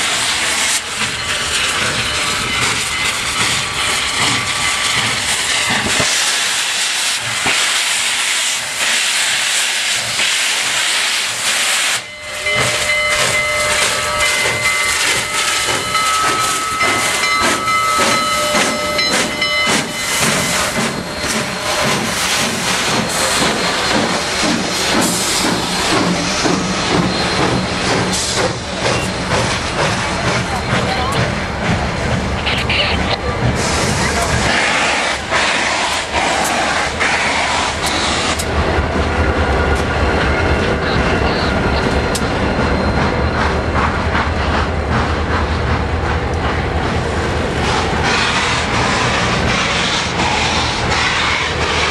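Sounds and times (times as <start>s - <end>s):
steam locomotive hissing: 0.0s - 51.9s
locomotive exhaust beats: 10.1s - 51.9s.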